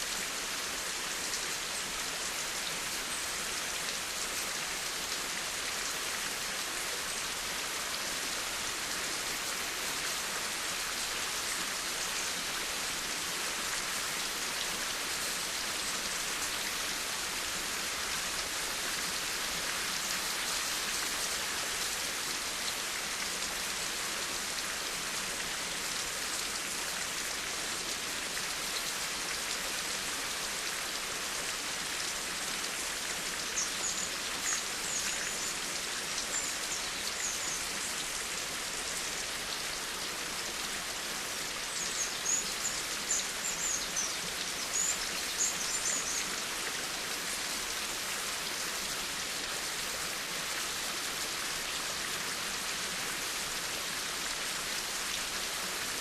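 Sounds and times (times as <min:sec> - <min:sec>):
rain hissing on a surface: 0:00.0 - 0:56.0.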